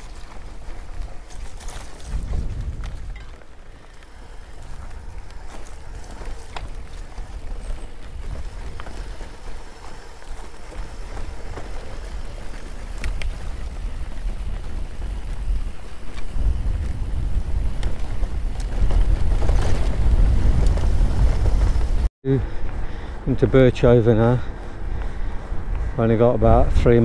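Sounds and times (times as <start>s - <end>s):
bike clicks and rattles: 0.0s - 22.0s
wind and tyre rumble: 0.0s - 27.0s.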